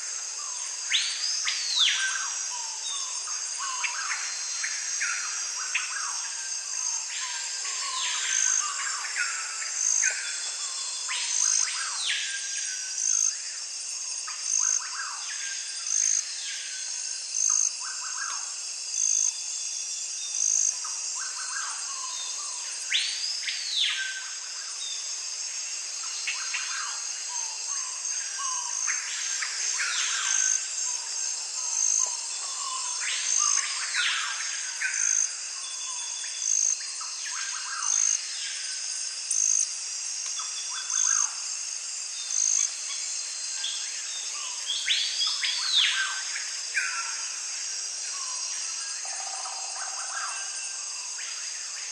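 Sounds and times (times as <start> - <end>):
pulsing insect trill: 0.0 - 51.9.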